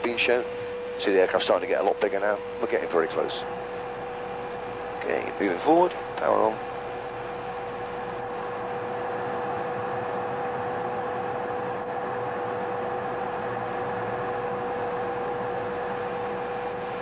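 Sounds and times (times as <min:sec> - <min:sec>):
constant mid-pitched hum: 0:00.0 - 0:17.0.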